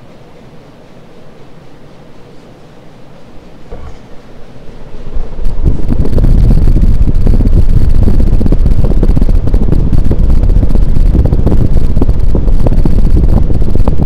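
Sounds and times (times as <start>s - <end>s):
ceiling fan wind rumble: 0.0s - 14.0s.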